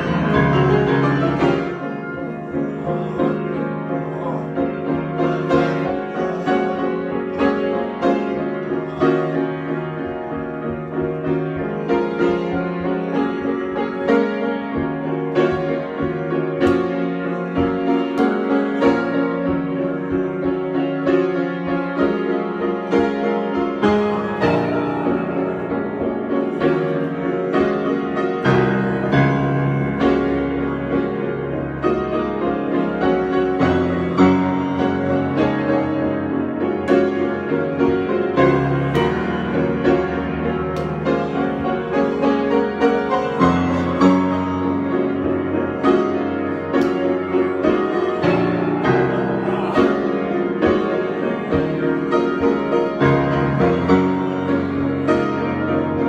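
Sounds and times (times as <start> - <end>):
solo piano improvisation: 0.0 - 56.0.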